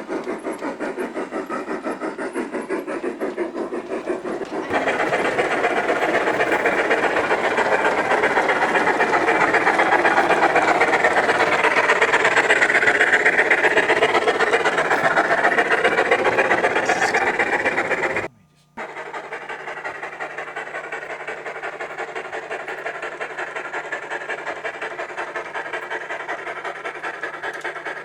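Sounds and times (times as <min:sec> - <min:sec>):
model train chugging clatter: 0:00.0 - 0:28.0.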